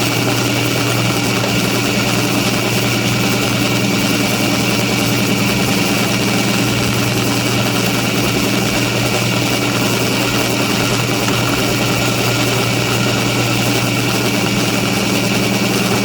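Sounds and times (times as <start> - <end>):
air compressor humming: 0.0 - 16.0.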